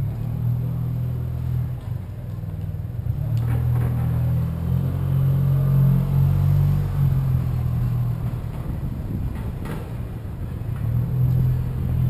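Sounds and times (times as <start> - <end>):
wind and road noise rumble: 0.0 - 12.0.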